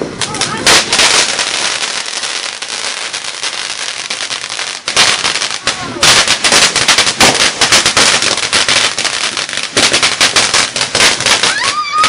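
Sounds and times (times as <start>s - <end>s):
firework crackling: 0.0s - 12.0s.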